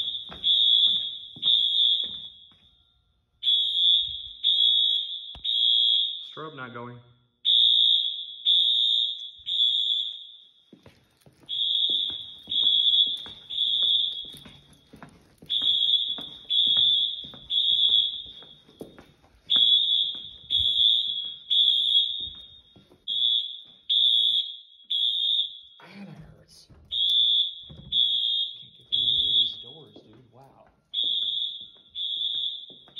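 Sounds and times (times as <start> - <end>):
fire alarm horns: 0.0 - 10.7, 11.4 - 25.8, 26.9 - 32.9.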